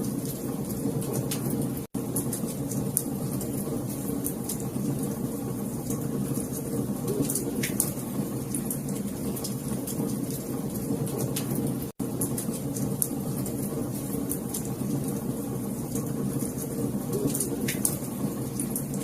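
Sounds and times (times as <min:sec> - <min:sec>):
low rumble of burning flames: 0:00.0 - 0:19.0
wood fire crackling and popping: 0:00.0 - 0:19.0.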